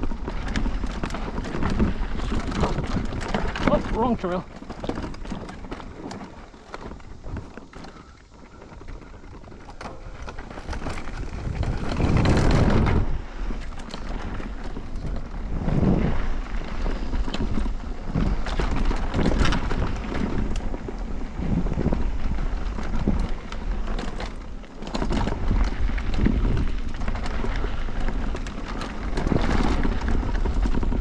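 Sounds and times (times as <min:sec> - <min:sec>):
mountain bike clattering: 0:00.0 - 0:31.0
wind buffeting the microphone: 0:00.0 - 0:31.0.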